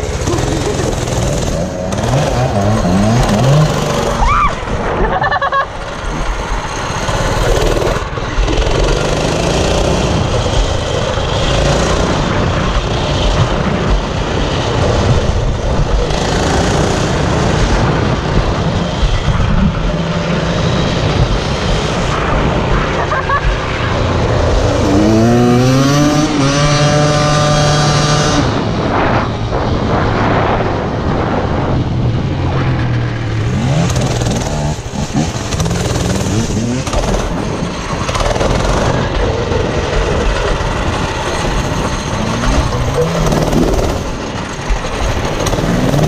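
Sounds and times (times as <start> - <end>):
small motorbike engine revving: 0.0 - 29.1, 33.2 - 46.0
wind buffeting microphone: 0.0 - 46.0.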